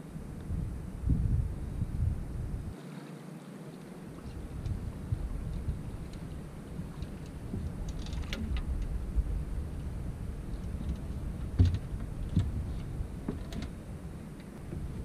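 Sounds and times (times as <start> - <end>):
steady low rumble: 0.0 - 2.8, 4.1 - 15.0.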